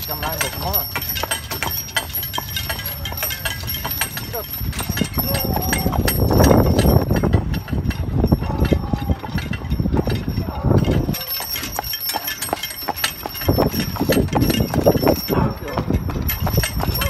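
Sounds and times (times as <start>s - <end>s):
horse hooves clip-clopping on asphalt: 0.0s - 17.0s.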